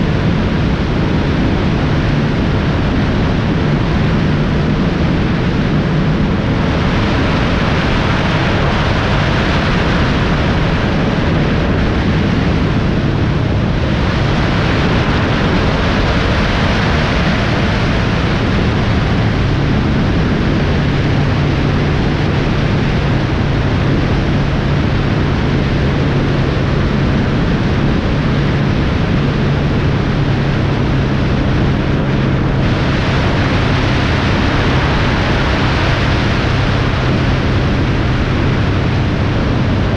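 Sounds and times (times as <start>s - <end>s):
engine hum: 0.0s - 39.9s
road and wind noise: 0.0s - 39.9s.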